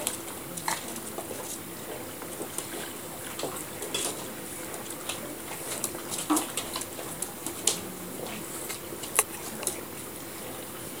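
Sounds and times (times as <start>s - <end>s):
puppies scrambling on tile floor: 0.0s - 11.0s.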